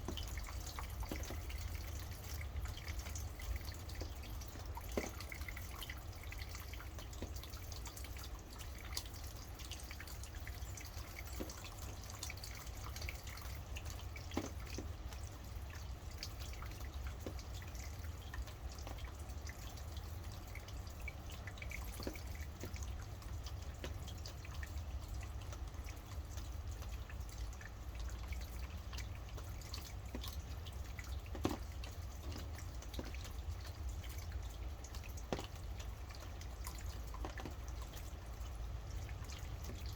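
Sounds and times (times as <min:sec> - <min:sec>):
constant low rumble: 0:00.0 - 0:39.9
drops dripping close by: 0:00.0 - 0:39.9
steady rain: 0:00.0 - 0:39.9.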